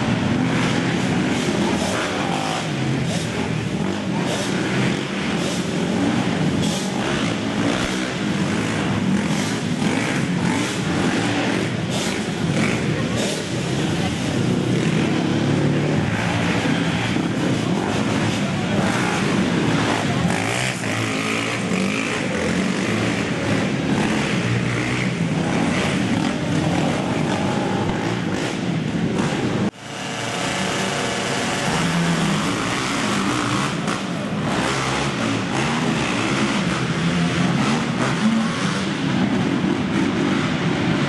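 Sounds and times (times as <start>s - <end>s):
quad engines revving: 0.0s - 41.0s.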